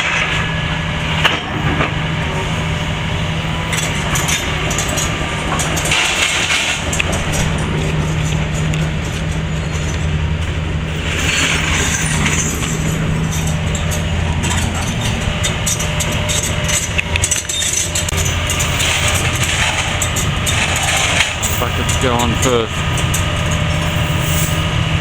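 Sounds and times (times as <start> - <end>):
diesel excavator engine running: 0.0 - 25.0
metallic clanks of steel buckets: 3.7 - 25.0.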